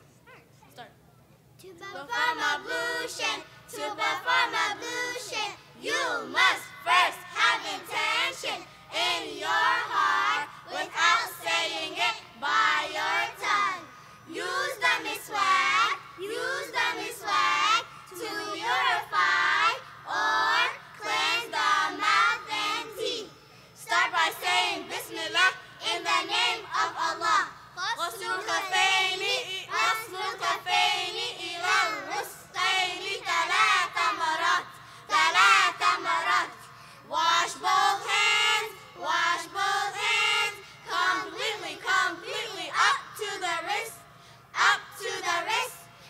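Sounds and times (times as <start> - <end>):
children singing: 2.2 - 23.3, 23.9 - 34.6, 37.1 - 43.9.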